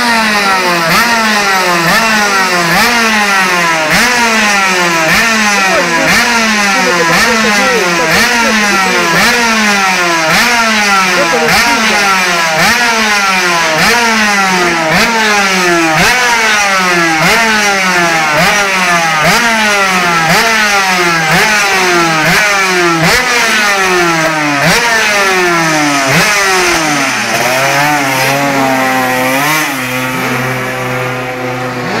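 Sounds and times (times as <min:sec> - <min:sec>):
two-stroke motorcycle engine revving: 0:00.0 - 0:32.0.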